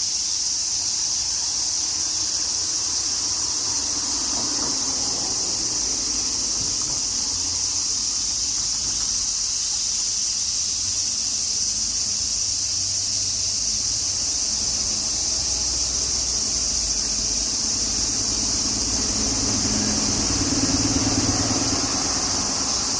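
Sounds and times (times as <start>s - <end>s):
cicadas buzzing: 0.0s - 22.9s.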